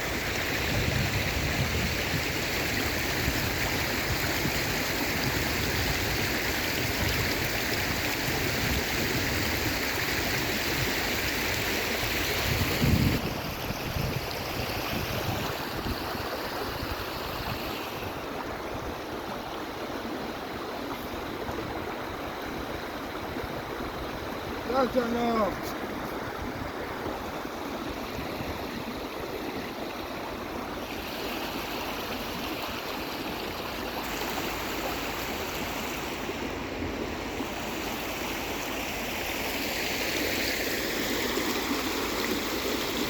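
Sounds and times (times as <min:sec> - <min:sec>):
water rushing: 0:00.0 - 0:43.0.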